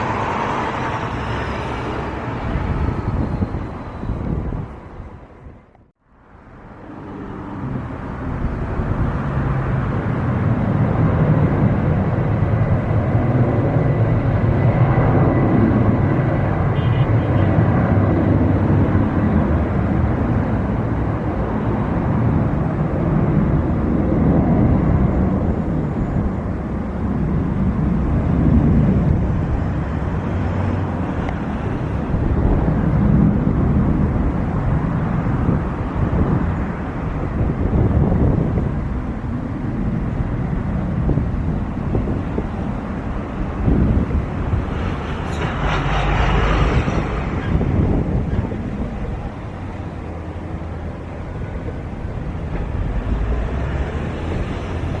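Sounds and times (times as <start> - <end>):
jet airliner engines rumbling: 0.0 - 55.0.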